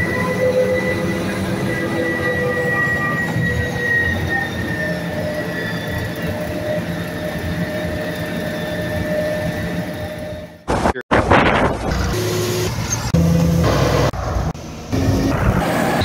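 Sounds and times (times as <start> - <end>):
high whining machinery tones: 0.0 - 10.7, 11.9 - 16.0
low engine drone: 0.0 - 10.7, 11.9 - 16.0.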